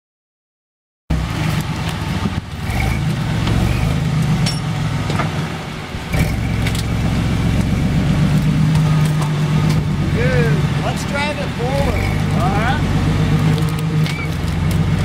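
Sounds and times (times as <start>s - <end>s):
truck engine running at low revs: 1.1s - 15.0s.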